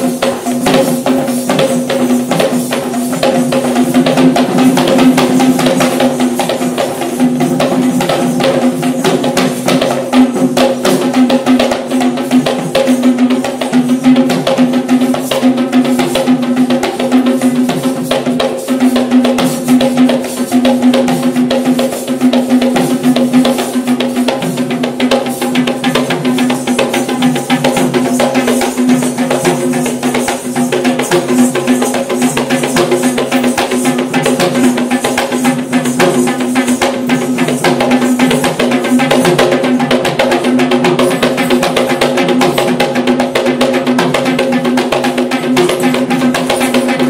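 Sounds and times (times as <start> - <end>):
hand drums beaten fast: 0.0 - 47.0.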